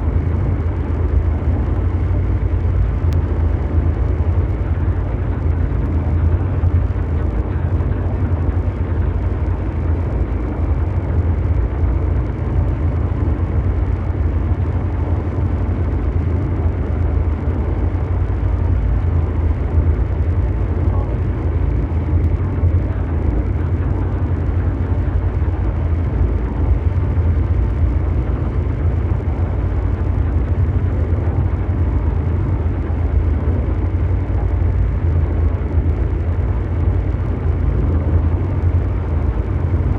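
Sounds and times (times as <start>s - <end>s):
deep mechanical drone rumble: 0.0s - 39.9s.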